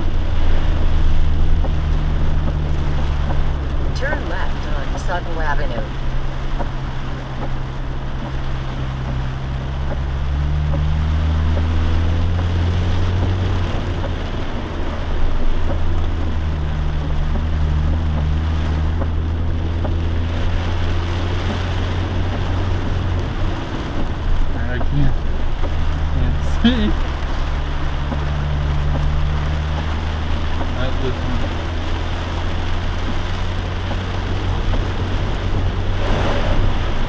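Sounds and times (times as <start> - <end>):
car engine droning: 0.0 - 37.0
tires rushing on wet road: 0.0 - 37.0.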